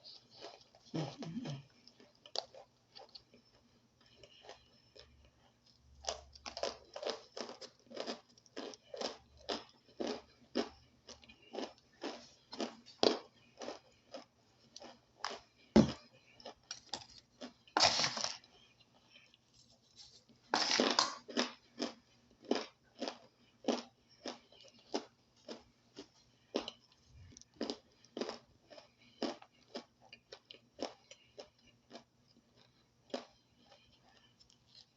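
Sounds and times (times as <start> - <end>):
crunchy snack being chewed: 0.0 - 34.9.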